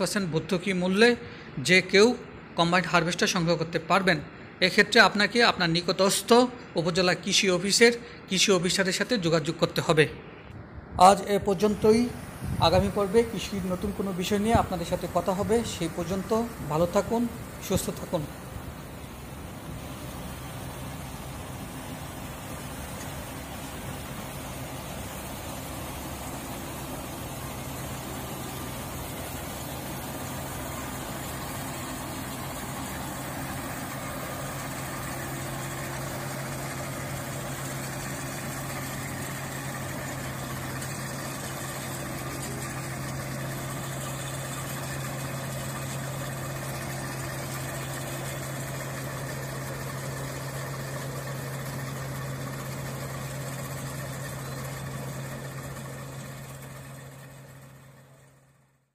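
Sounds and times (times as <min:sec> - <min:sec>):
combine harvester engine running: 0:00.0 - 0:58.9.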